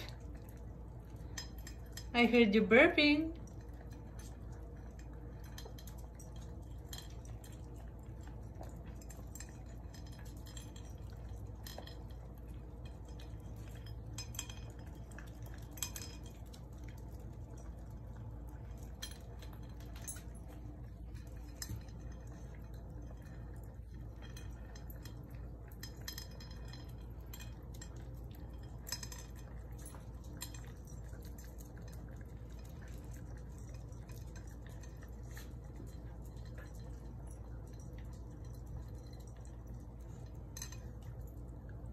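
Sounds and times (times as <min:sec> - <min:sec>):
dogs eating from bowl: 0:00.0 - 0:41.9
light clinks against bowl: 0:03.4 - 0:41.4.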